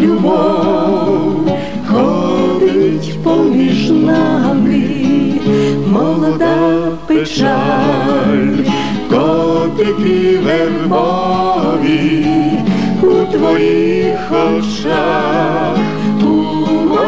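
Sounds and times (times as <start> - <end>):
plucked acoustic guitar: 0.0 - 17.0
vocal trio singing in harmony: 0.0 - 17.0.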